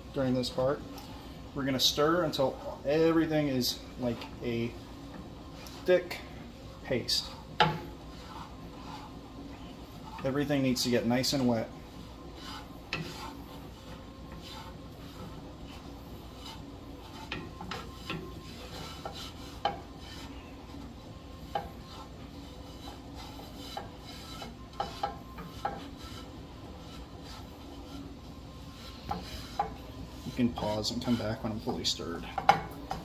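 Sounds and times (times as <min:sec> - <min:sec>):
spatula scraping paste in a pan: 0:01.8 - 0:33.0.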